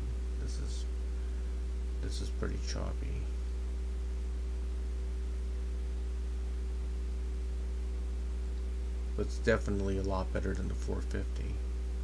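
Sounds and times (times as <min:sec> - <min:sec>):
mains electrical hum: 0:00.0 - 0:12.0.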